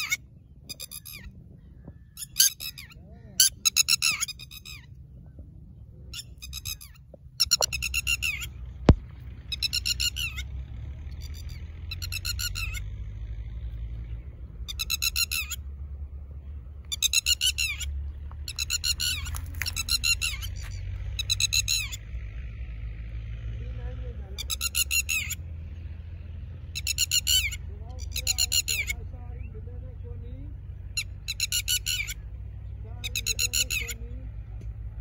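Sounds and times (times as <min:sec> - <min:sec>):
lapwing calling: 0:00.0 - 0:22.4, 0:24.2 - 0:34.4
low rumble: 0:00.2 - 0:26.8, 0:28.9 - 0:35.0.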